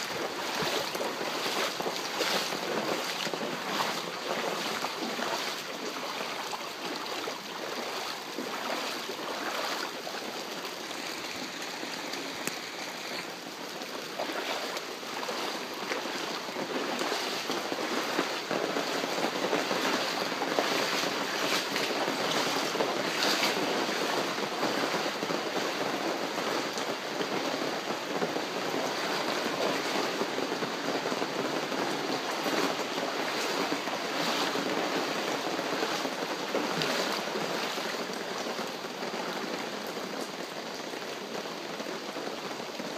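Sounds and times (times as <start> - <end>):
floodwater rushing through street: 0.0 - 42.9
torrential rain: 0.0 - 42.9.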